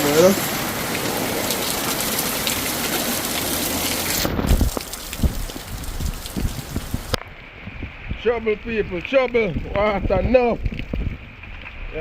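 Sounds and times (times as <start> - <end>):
heavy rain hiss: 0.0 - 10.7.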